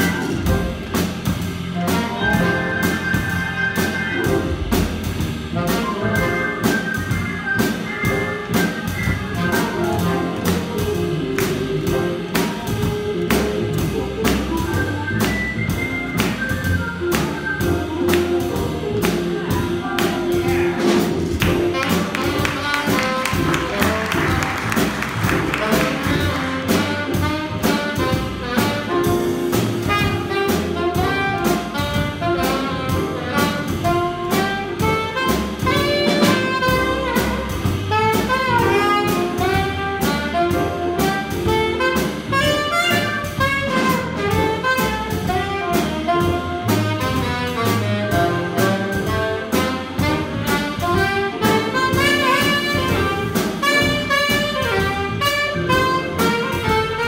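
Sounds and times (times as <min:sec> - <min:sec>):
alto saxophone solo: 0:00.0 - 0:57.0
drum kit: 0:00.0 - 0:57.0
electric keyboard: 0:00.0 - 0:57.0
upright bass: 0:00.0 - 0:57.0.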